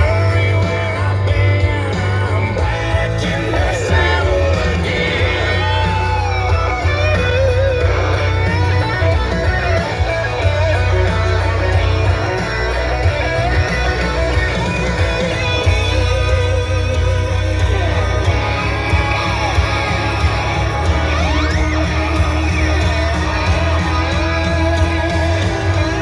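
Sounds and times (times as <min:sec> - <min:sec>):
bass line: 0:00.0 - 0:26.0
electric guitar lead: 0:00.0 - 0:26.0
rock music: 0:00.0 - 0:26.0.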